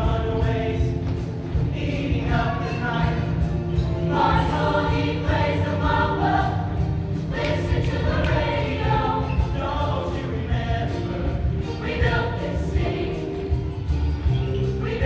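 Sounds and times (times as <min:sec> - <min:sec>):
choir singing in harmony: 0:00.0 - 0:15.0
musical accompaniment with bass: 0:00.0 - 0:15.0.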